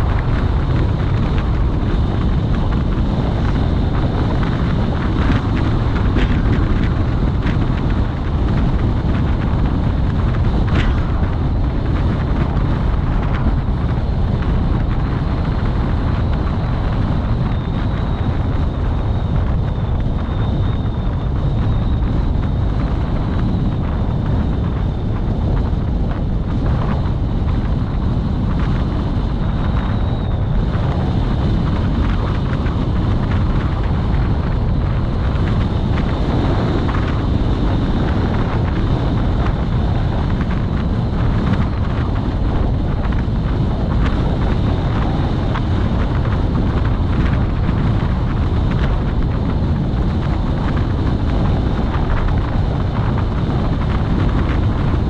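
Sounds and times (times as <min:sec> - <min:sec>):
vehicle road noise: 0:00.0 - 0:55.0
wind rumbling on microphone: 0:00.0 - 0:55.0.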